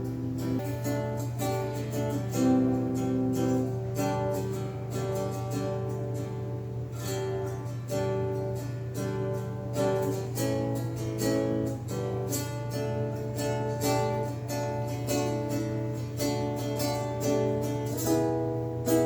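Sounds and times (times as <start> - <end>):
strummed guitar chords: 0.0 - 19.0.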